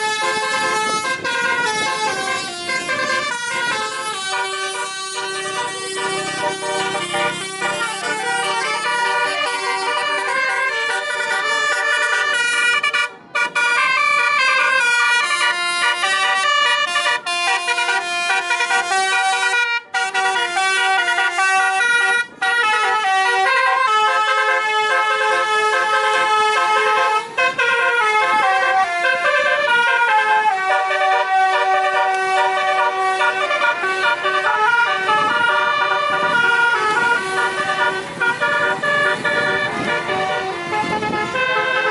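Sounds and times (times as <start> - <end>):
multi-tone car air horn tune: 0.0 - 41.9.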